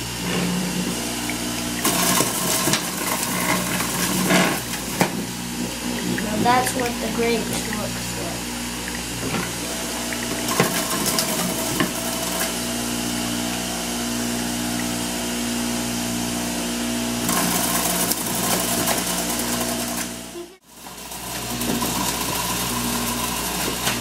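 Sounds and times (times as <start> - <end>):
juicer motor whirring: 0.0 - 24.0.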